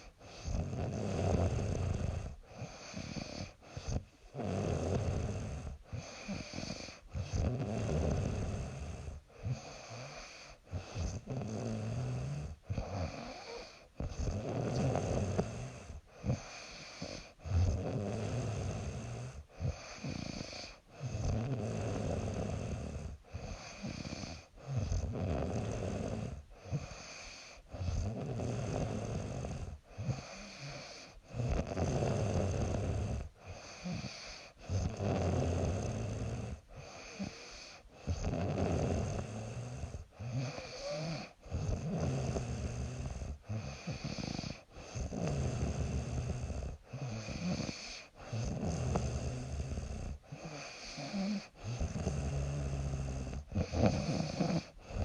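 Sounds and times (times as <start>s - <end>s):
woman snoring: 0.0s - 55.0s.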